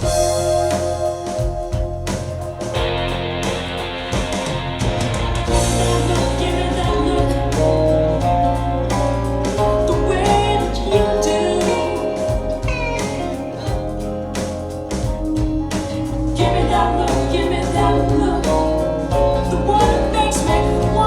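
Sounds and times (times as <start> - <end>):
heavy bass line: 0.0 - 21.0
song with singing and guitar: 0.0 - 21.0.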